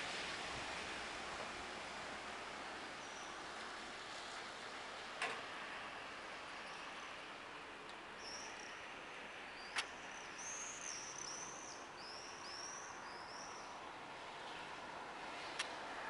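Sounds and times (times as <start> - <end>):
city hum: 0.0 - 16.0.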